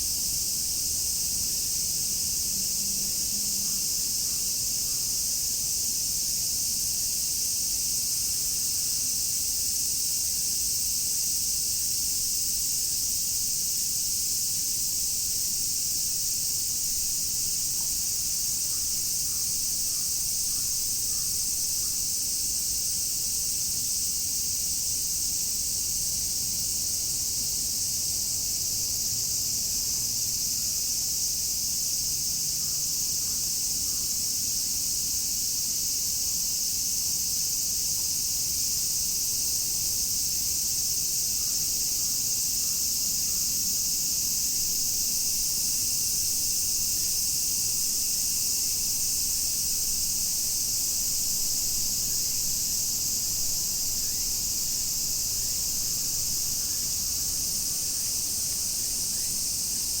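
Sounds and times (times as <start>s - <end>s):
cicadas shrilling: 0.0s - 60.0s.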